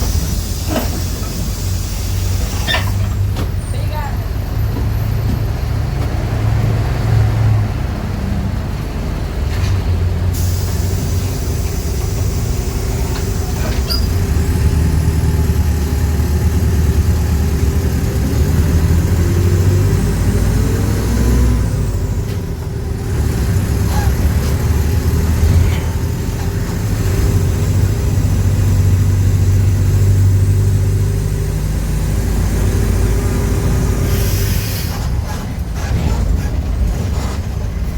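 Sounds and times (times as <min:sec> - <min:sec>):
diesel bus engine running: 0:00.0 - 0:37.9.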